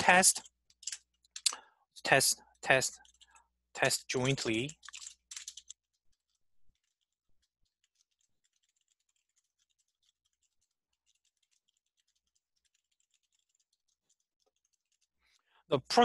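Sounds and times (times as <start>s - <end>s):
keyboard typing: 0.0s - 1.7s, 2.6s - 15.2s.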